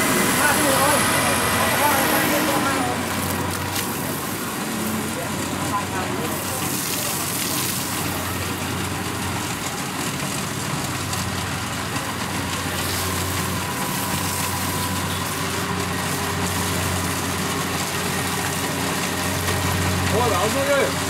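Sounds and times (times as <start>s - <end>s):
combine harvester diesel engine: 0.0s - 21.0s.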